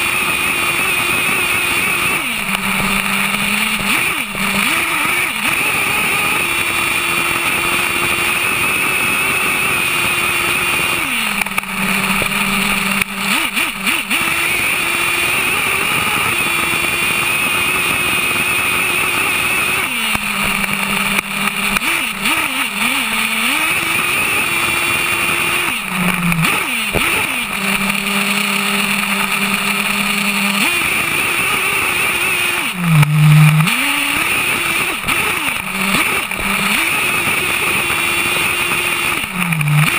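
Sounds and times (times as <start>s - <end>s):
small engine screaming at high revs: 0.0s - 39.9s.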